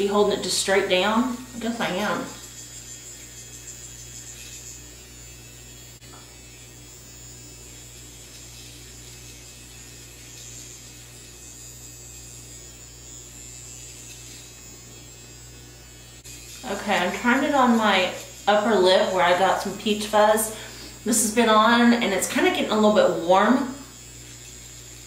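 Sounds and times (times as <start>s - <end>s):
rotary trimmer buzzing: 0.0s - 25.0s.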